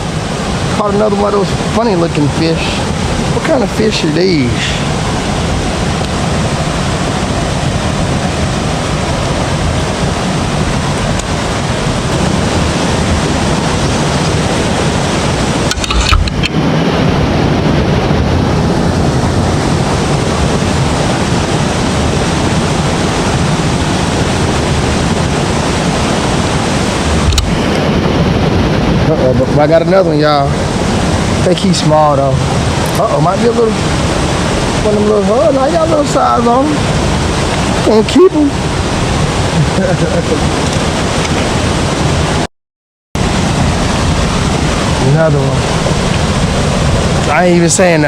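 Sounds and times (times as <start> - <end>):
wind buffeting microphone: 0.0 - 42.5, 43.2 - 48.0.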